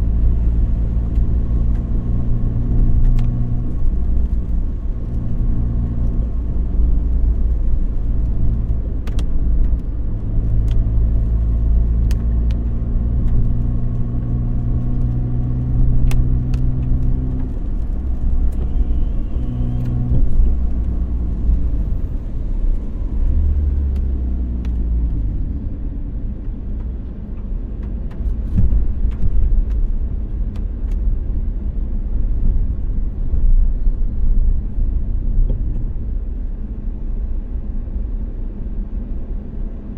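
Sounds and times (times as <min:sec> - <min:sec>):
car engine hum: 0:00.0 - 0:39.9
road rumble: 0:00.0 - 0:39.9.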